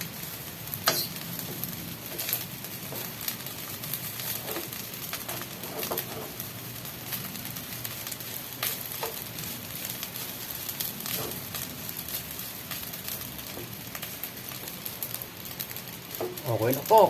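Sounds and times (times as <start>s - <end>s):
rice sizzling in a hot pan: 0.0s - 17.0s.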